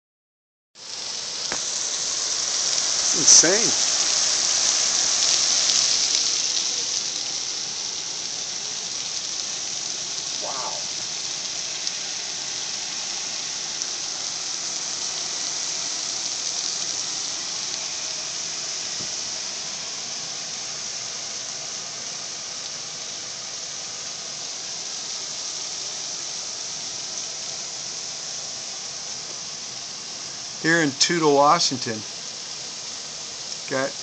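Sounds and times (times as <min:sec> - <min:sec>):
heavy rain falling: 0:00.8 - 0:34.0.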